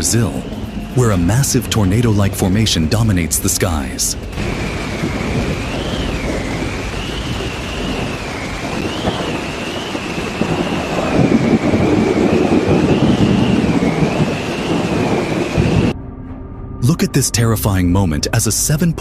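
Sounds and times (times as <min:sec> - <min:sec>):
storm wind roaring: 0:00.0 - 0:16.0
faint wavering high tone: 0:00.0 - 0:17.2.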